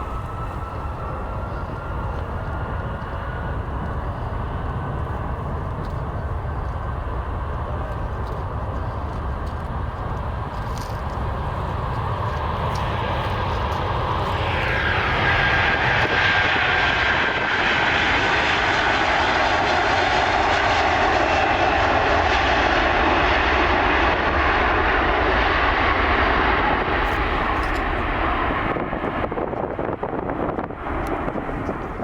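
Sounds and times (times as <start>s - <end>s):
airliner engines passing: 0.0s - 32.0s.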